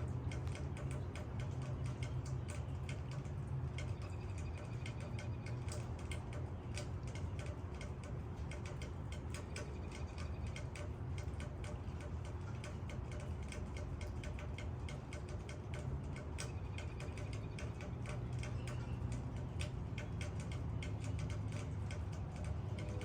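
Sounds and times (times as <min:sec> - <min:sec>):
low rumble of rain: 0:00.0 - 0:23.0
raindrops ticking on leaves: 0:00.0 - 0:23.0.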